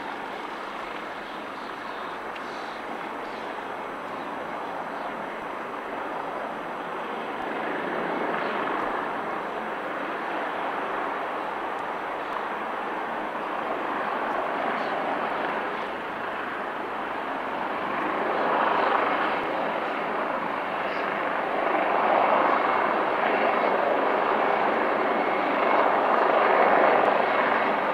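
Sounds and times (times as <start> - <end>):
helicopter turbine and rotor: 0.0 - 27.9.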